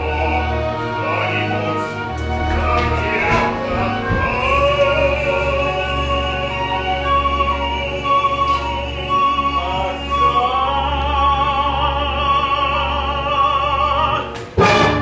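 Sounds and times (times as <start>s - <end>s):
opera singer with vibrato: 0.0s - 14.6s
orchestra sustained chords: 0.0s - 15.0s.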